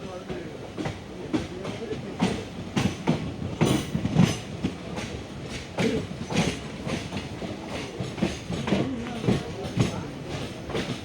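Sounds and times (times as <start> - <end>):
train rumble: 0.0 - 11.0
train wheels clacking: 0.0 - 11.0.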